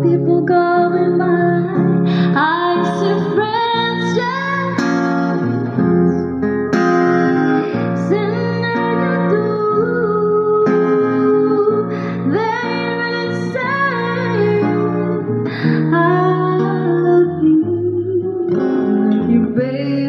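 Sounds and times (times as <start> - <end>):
woman singing: 0.0 - 5.8, 7.2 - 20.0
acoustic guitar chords: 0.0 - 20.0.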